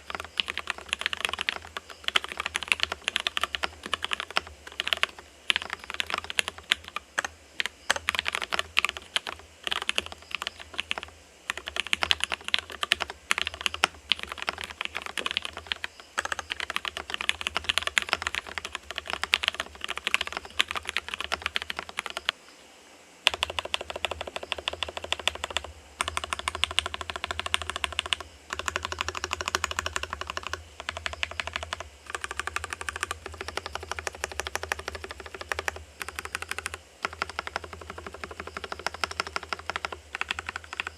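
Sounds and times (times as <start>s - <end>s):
fast keyboard typing: 0.0s - 22.3s, 23.3s - 40.9s.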